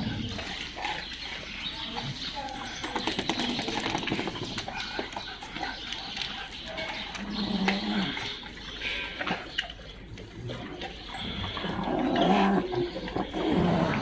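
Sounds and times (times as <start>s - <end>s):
dogs moving on tiled floor: 0.0s - 14.0s
low dog vocal sounds: 0.0s - 14.0s.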